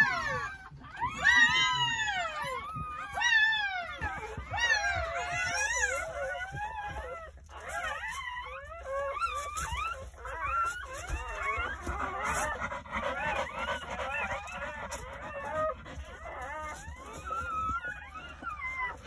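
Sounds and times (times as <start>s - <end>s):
puppies squealing and crying: 0.0s - 19.0s.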